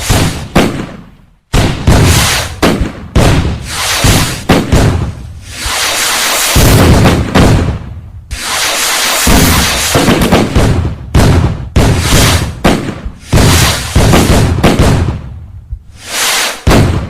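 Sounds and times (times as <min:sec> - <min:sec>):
fireworks exploding: 0:00.0 - 0:17.0.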